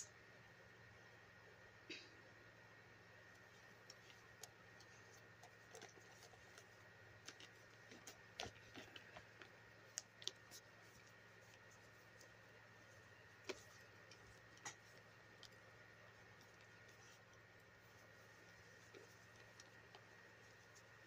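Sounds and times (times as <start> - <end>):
faint steady hum: 0.0 - 21.0
small clicks and taps: 3.3 - 21.0.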